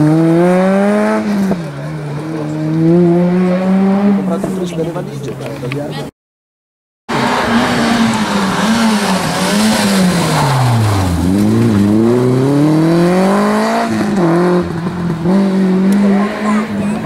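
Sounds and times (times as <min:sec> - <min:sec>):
rally car engine passing at speed: 0:00.0 - 0:04.9, 0:07.1 - 0:17.0.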